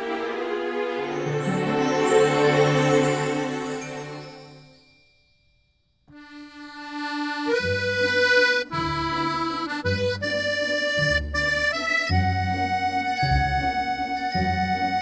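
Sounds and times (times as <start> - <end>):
instrumental background music: 0.0 - 5.0, 6.1 - 15.0.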